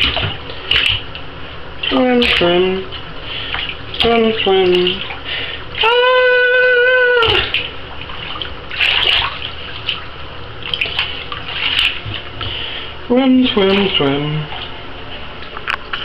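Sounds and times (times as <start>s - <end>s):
water sloshing in a bathtub: 0.0s - 16.0s.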